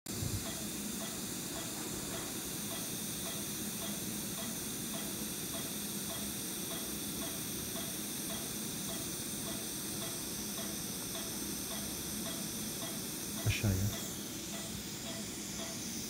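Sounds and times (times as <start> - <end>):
equipment hiss and hum: 0.1 - 16.0
faint ticks: 0.4 - 15.8.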